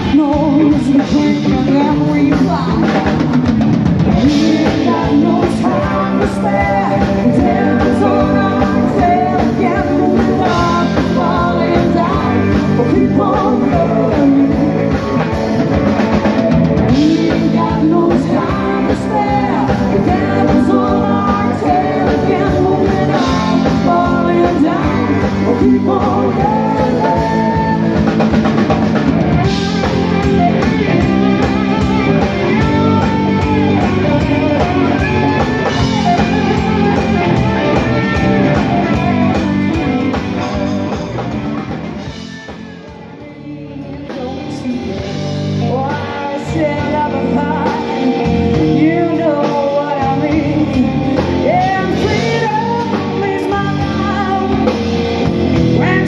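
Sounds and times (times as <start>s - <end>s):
person singing: 0.0s - 3.4s, 4.1s - 15.7s, 16.8s - 28.6s, 29.4s - 41.3s, 42.0s - 56.0s
drum kit: 0.0s - 56.0s
electric guitars: 0.0s - 56.0s.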